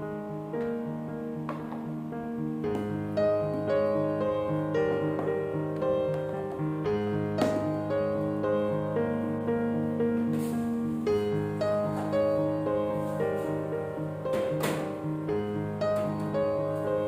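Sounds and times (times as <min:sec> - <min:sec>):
instrumental piano music: 0:00.0 - 0:17.0.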